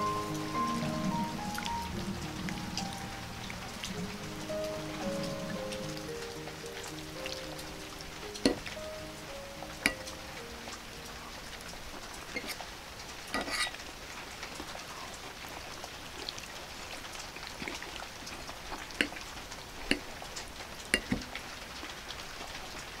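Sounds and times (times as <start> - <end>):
crackly hiss: 0.0 - 23.0.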